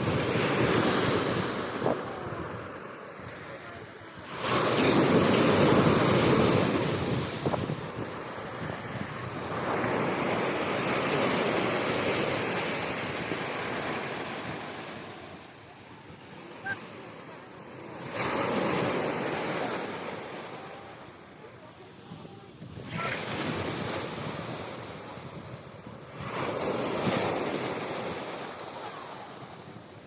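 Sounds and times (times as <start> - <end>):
storm waves crashing on beach: 0.0 - 30.0.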